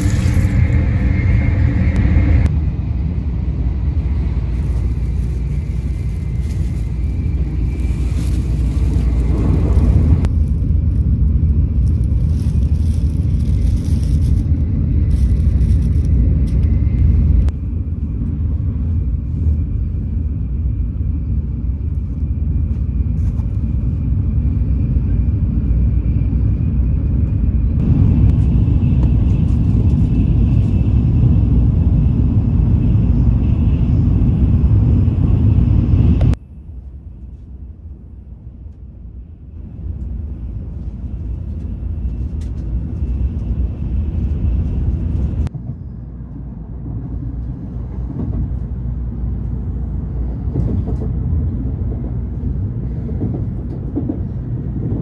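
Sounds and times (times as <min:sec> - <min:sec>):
train rumble from inside carriage: 0:00.0 - 0:55.0.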